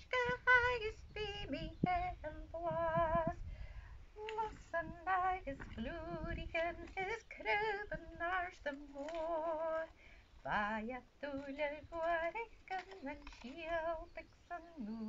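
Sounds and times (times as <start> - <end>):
woman singing with vibrato: 0.0 - 3.5, 4.1 - 15.0.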